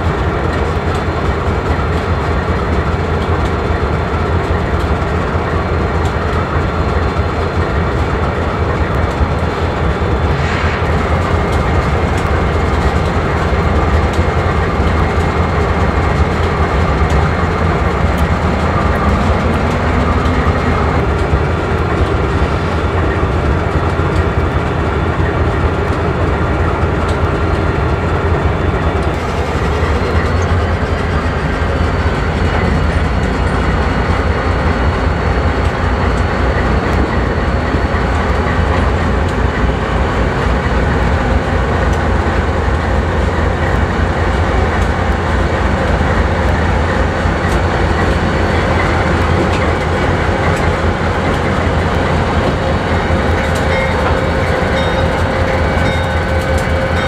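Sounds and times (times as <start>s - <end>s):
diesel locomotive engines rumbling: 0.0s - 57.0s
train wheels clicking over rails: 0.0s - 57.0s.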